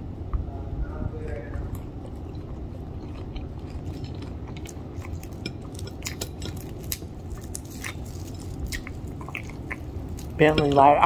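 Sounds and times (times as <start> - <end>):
low background rumble: 0.0 - 11.0
crispy breading crackling: 1.3 - 11.0.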